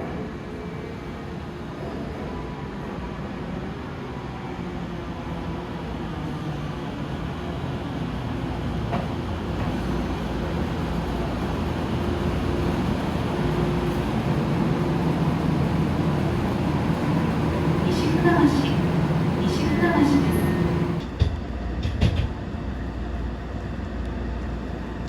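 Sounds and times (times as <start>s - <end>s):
electric train low rumble: 0.0s - 25.0s.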